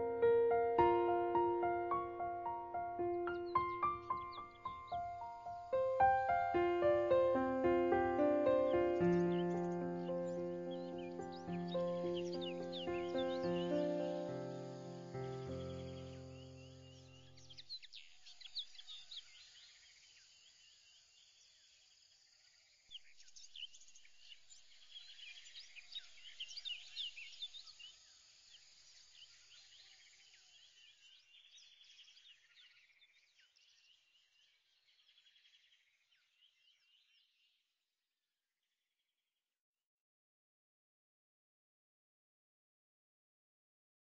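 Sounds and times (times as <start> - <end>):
small birds chirping: 0.0 - 37.6.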